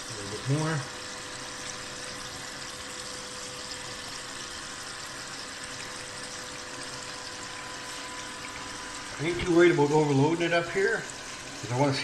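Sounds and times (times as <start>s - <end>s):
water rushing through sluice box: 0.0s - 12.0s.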